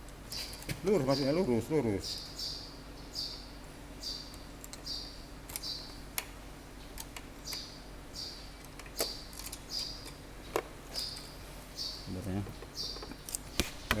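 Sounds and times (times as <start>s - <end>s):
faint steady hum: 0.0s - 14.0s
small bird chirping: 0.3s - 6.1s, 6.7s - 14.0s.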